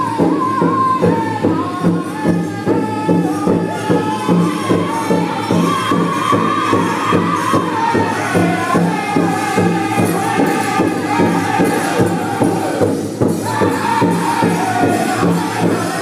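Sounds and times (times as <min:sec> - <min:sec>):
group singing high-pitched in unison: 0:00.0 - 0:16.0
large drum beating: 0:00.0 - 0:16.0.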